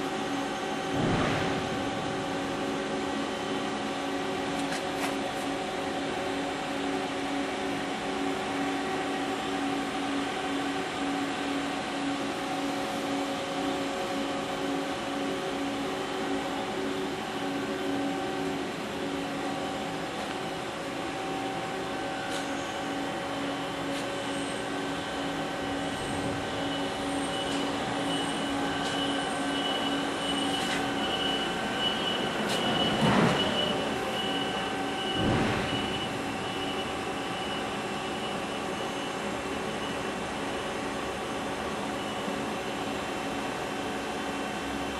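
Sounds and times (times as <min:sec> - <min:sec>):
lathe machine hum: 0:05.4 - 0:41.8.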